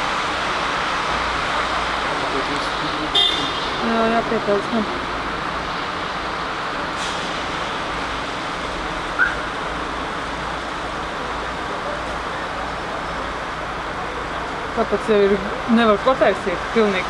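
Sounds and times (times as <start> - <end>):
street traffic rushing: 0.0 - 17.0.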